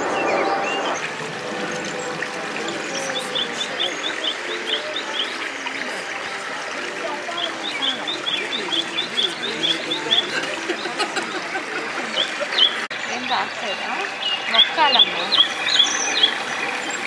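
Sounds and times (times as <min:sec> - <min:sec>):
chatter of many people: 0:00.0 - 0:17.0.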